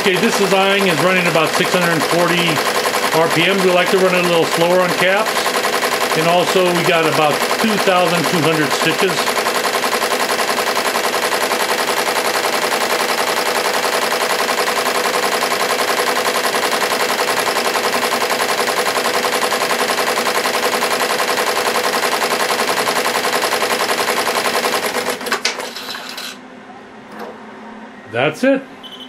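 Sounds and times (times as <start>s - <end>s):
embroidery machine stitching: 0.0s - 26.4s.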